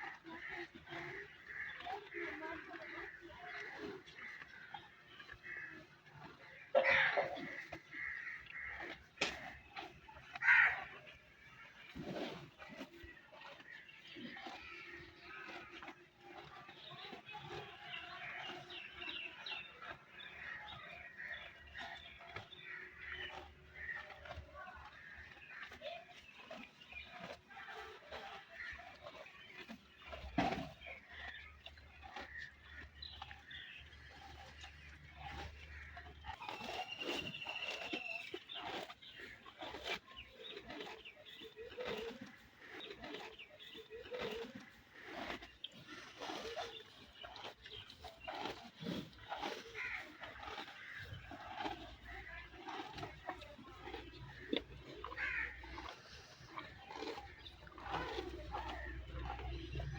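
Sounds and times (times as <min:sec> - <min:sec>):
birds chirping: 0:00.0 - 0:59.9
buffalo tearing and chewing grass: 0:00.0 - 0:59.9.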